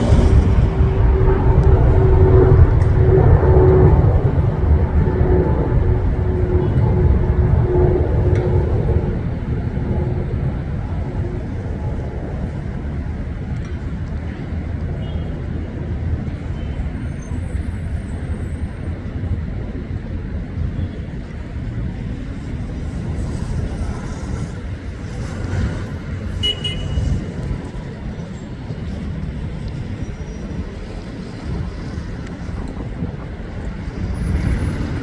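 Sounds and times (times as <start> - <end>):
rumble of passing vehicles: 0.0 - 35.0.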